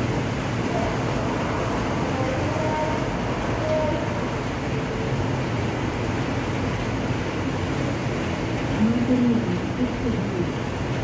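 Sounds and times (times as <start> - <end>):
heavy rain on wet pavement: 0.0 - 11.0.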